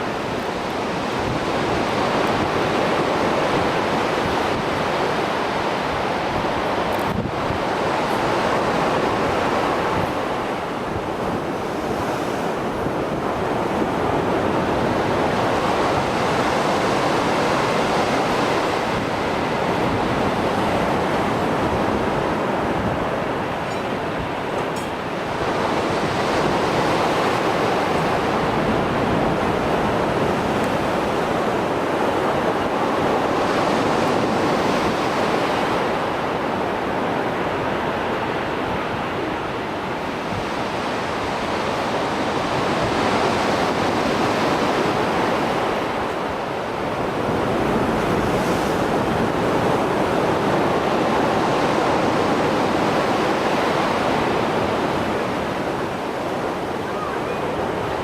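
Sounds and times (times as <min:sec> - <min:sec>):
waves breaking: 0:00.0 - 0:58.0
wind on microphone: 0:00.0 - 0:58.0.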